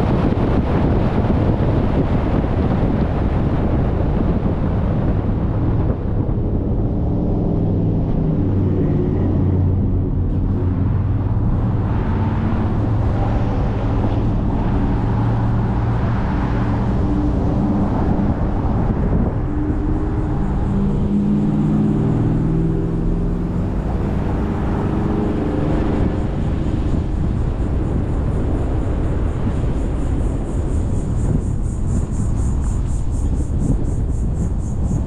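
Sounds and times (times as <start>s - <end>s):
low steady drone: 0.0s - 35.0s
road and wind noise: 0.0s - 35.0s.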